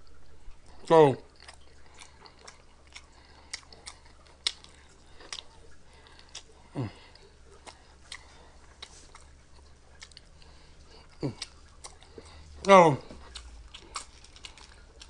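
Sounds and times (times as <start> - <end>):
person chewing: 0.2 - 15.0.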